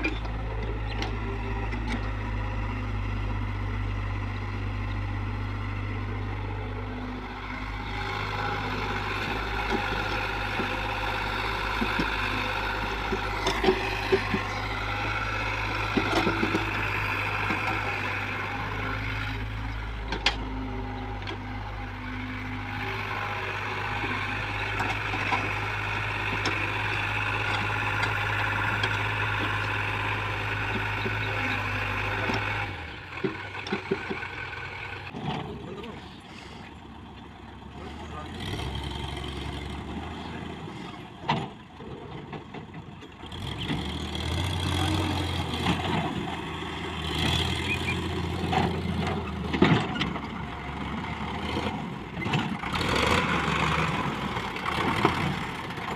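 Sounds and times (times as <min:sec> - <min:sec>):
diesel machinery running: 0:00.0 - 0:55.9.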